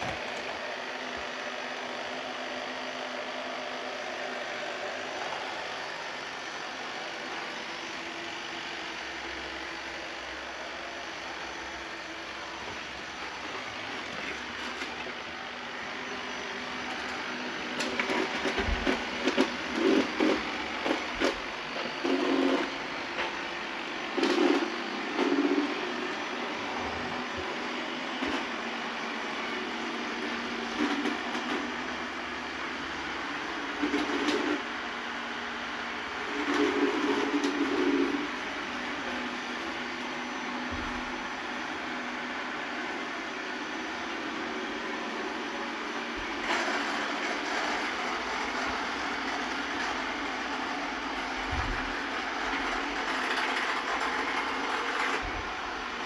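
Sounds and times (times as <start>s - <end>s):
robot vacuum cleaner whirring: 0.0s - 56.0s.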